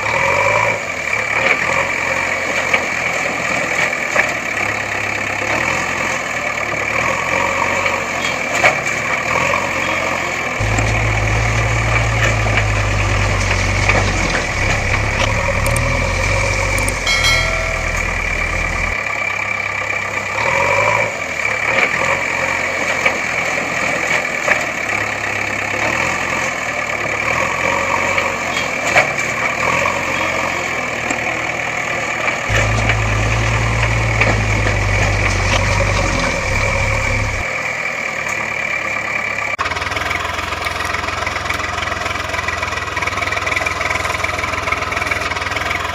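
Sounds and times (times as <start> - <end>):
engine idling: 0.8 - 45.9.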